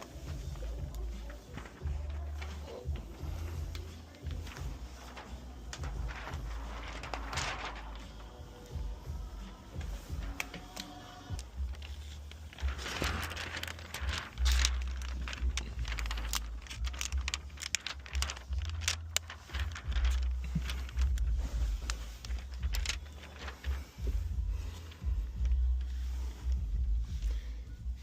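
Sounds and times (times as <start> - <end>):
plastic film crinkling: 0.0 - 28.0
steady low rumble: 0.1 - 10.6, 11.2 - 28.0.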